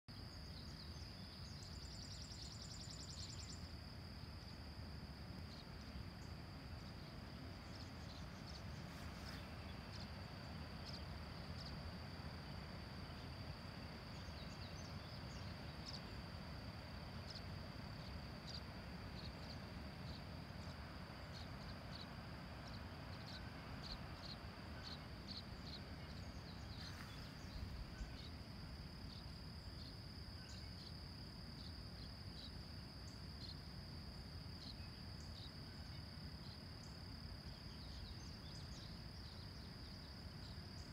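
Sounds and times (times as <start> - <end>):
high-pitched insect chorus: 0.1 - 40.9
insect chirps and trill: 0.1 - 40.9
low steady rumble: 0.1 - 40.9.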